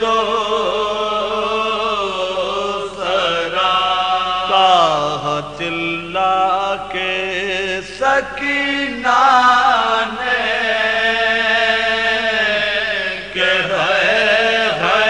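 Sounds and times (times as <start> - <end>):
men chanting: 0.0 - 15.0.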